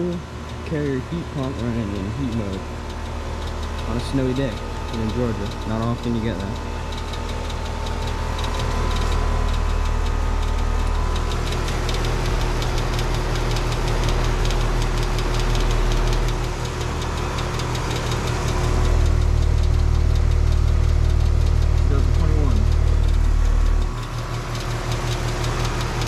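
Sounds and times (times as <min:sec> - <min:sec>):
heat pump outdoor unit droning: 0:00.0 - 0:26.0.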